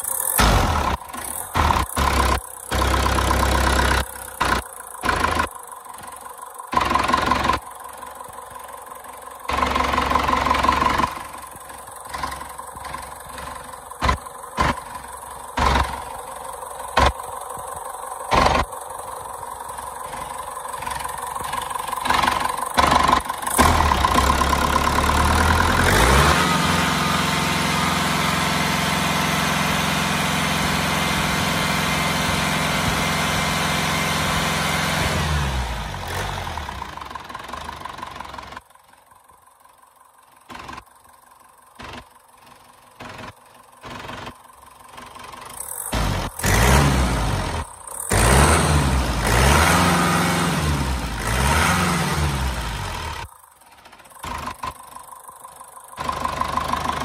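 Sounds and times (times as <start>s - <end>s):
diesel engine cranking on starter: 0.0s - 38.7s, 40.4s - 57.0s.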